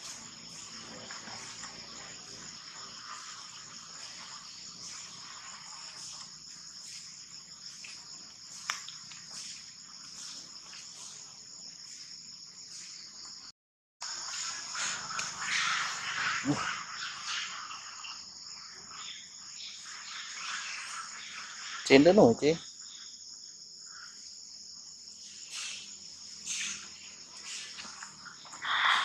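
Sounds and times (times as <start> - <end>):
insects chirping in grass: 0.0 - 29.0.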